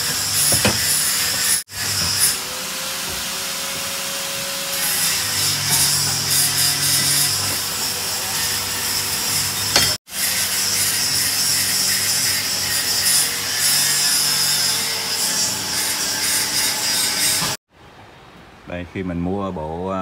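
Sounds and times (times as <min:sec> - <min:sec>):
tool rasping and scraping: 0:00.0 - 0:17.6.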